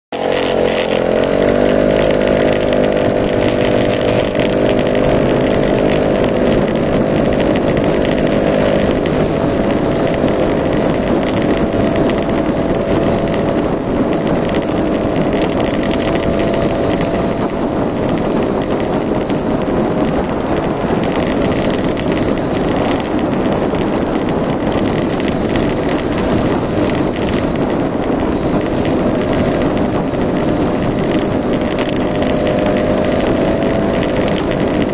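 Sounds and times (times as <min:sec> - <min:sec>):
scooter engine revving: 0:00.1 - 0:34.9
steady rushing noise: 0:00.1 - 0:34.9.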